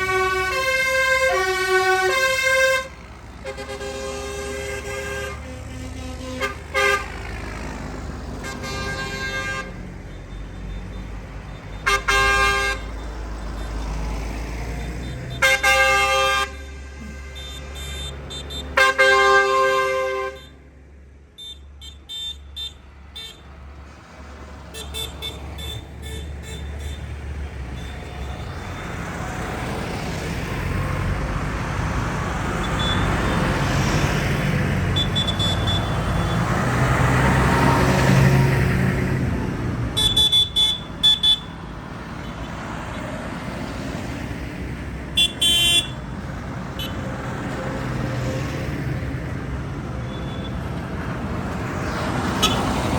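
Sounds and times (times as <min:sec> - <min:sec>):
tractors driving past: 0:00.0 - 0:52.9.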